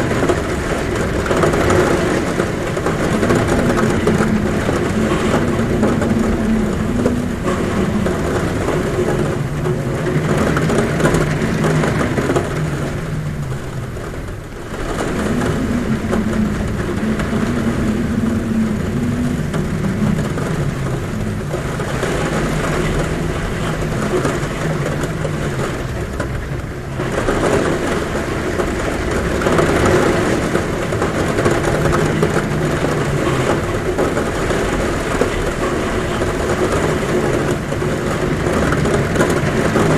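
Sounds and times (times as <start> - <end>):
heavy rain on roof: 0.0 - 39.9
wind humming at window: 0.0 - 39.9.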